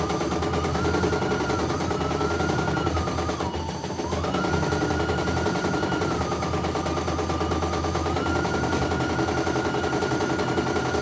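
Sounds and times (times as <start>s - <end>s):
motor whine: 0.0s - 11.0s.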